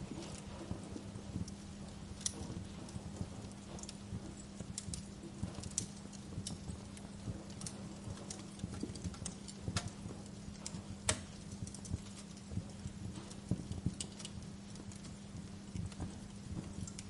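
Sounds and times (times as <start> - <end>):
steady hiss: 0.0 - 17.0
wood fire crackling: 0.0 - 17.0.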